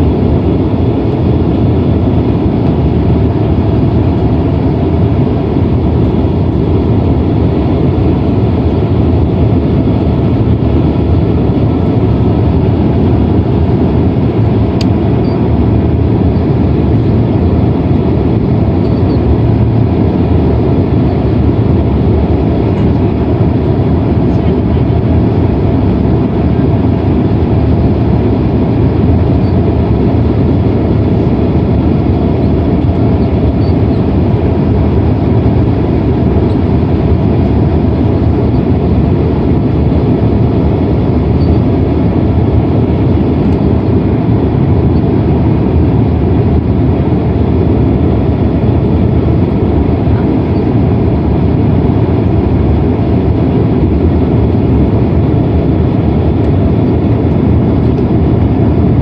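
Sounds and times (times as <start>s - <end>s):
faint steady hum: 0.0s - 59.0s
low rumble of engines and airflow: 0.0s - 59.0s.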